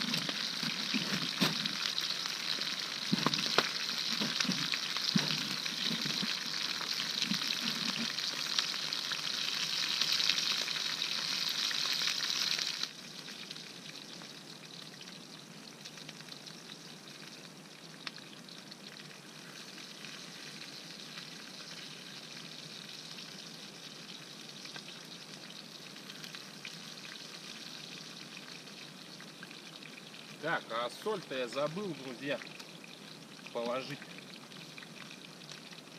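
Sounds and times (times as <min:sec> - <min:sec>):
meat sizzling over a campfire: 0:00.0 - 0:35.9.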